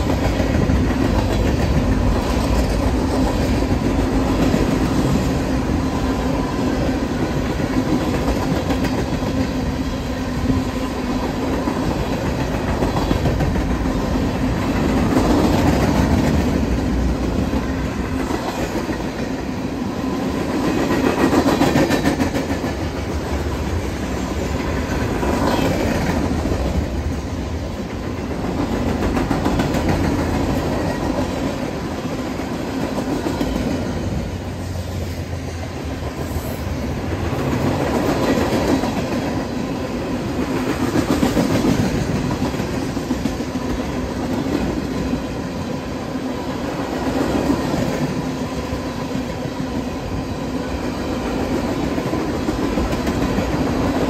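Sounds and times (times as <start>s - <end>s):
train wheels rumbling and clicking: 0.0s - 54.0s.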